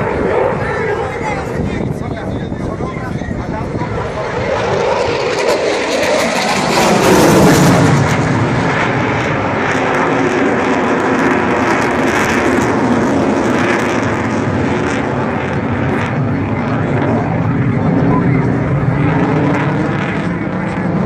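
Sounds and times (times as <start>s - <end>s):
jet passing overhead: 0.0s - 21.0s.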